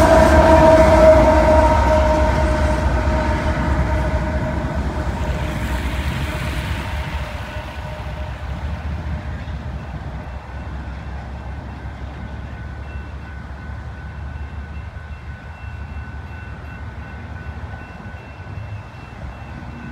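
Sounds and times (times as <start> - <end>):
crossing warning bell ringing: 0.0 - 19.9
train rumbling: 0.0 - 19.9.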